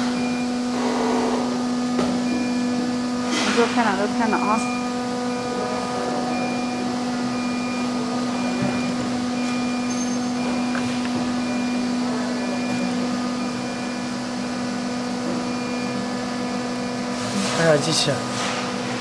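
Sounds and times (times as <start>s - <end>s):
cnc router humming and whining: 0.0s - 19.0s.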